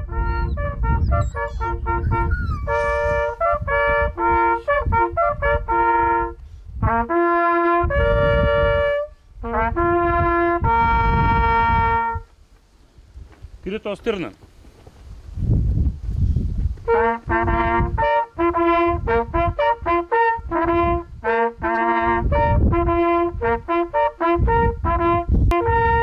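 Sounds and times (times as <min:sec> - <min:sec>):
hunting horns brass fanfare: 0:00.0 - 0:12.3, 0:16.9 - 0:26.0.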